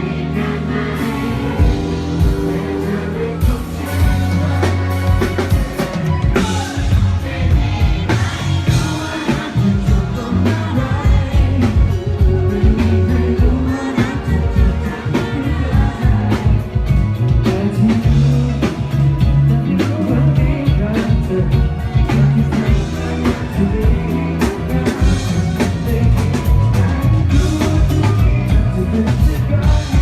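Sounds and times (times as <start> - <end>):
drum kit and bass beat: 0.0 - 30.0
pop ballad with singing voice: 0.0 - 30.0.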